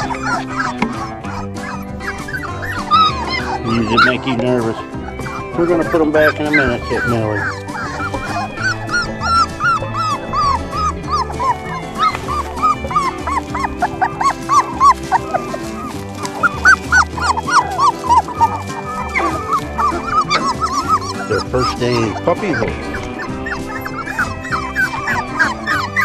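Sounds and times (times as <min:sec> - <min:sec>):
background music with low beat: 0:00.0 - 0:26.0
puppies whining: 0:00.0 - 0:26.0.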